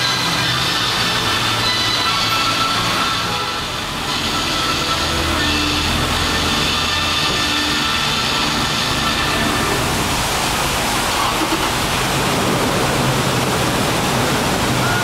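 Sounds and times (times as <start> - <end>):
heavy rush of falling water: 0.0 - 15.0.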